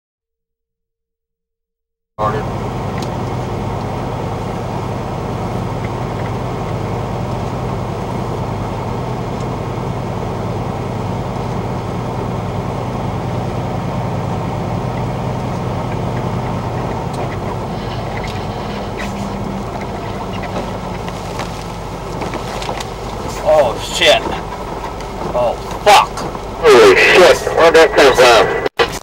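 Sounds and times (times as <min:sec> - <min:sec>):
road noise: 0:02.2 - 0:29.0
truck diesel engine drone: 0:02.2 - 0:29.0.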